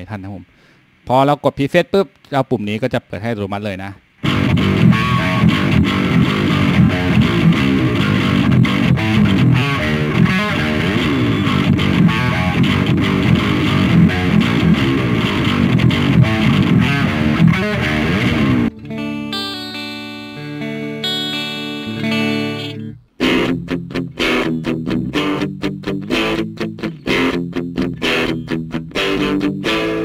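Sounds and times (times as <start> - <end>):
clean electric guitar notes: 4.2 - 30.0
distorted electric guitar riffing: 4.2 - 30.0.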